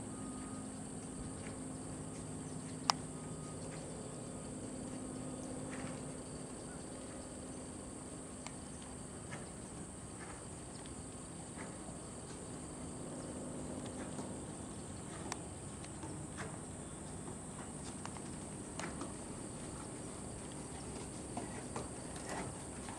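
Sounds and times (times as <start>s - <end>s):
crickets chirring: 0.0s - 22.9s
horse hooves trotting on sand: 0.6s - 22.9s.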